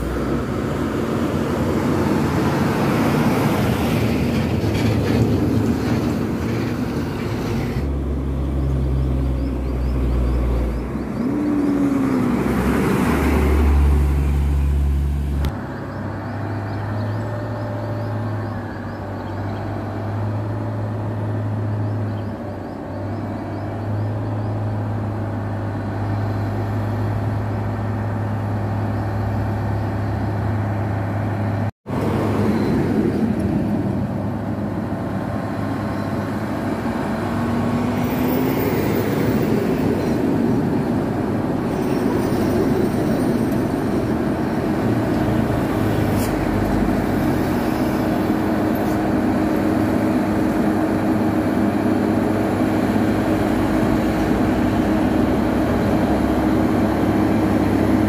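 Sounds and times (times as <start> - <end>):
diesel truck engines droning: 0.0 - 58.0.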